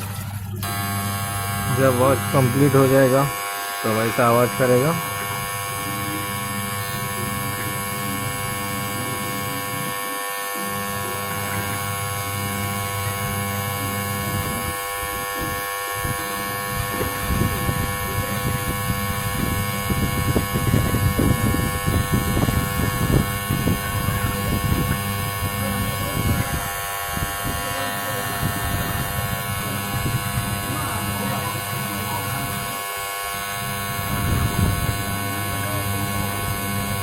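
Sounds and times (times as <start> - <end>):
washing machine motor humming: 0.0 - 37.0.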